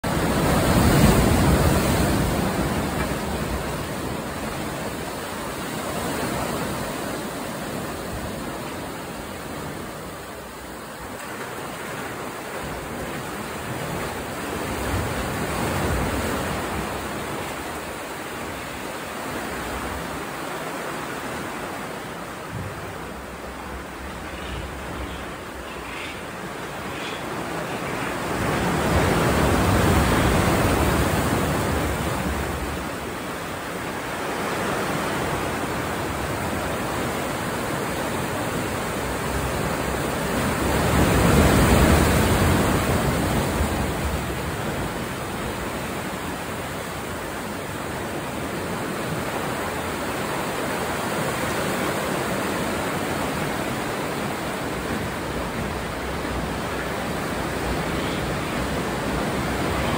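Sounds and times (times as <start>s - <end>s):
ocean surf rushing: 0.0s - 59.9s.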